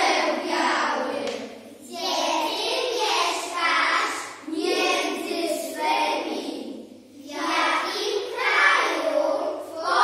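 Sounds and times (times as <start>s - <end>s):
children speaking in unison: 0.0s - 10.0s.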